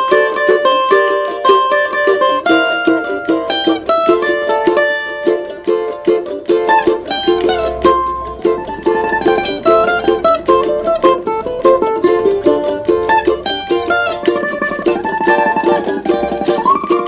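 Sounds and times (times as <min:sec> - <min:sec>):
plucked string instrument samba: 0:00.0 - 0:17.0.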